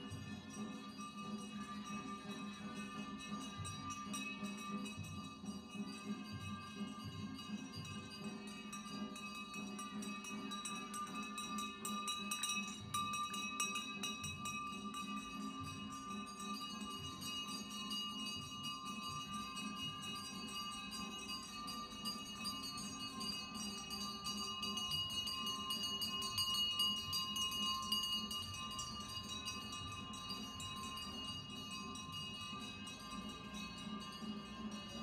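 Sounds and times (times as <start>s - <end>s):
bell-like chime music: 0.0s - 35.0s.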